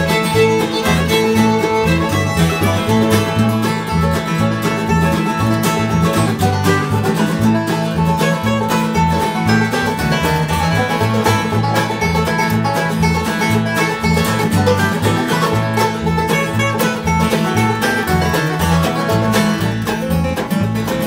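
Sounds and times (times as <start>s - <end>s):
acoustic guitars: 0.0s - 21.0s
banjo picking: 0.0s - 21.0s
mandolin: 0.0s - 21.0s
upright bass plucking: 0.0s - 21.0s.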